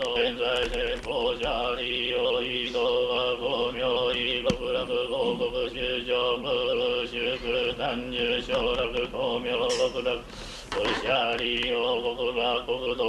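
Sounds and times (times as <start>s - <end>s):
man chanting in monotone: 0.0s - 13.0s.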